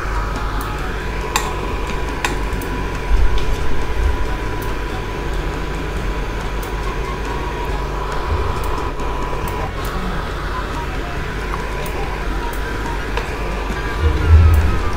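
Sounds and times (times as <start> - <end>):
cooktop hum and whine: 0.0 - 14.9.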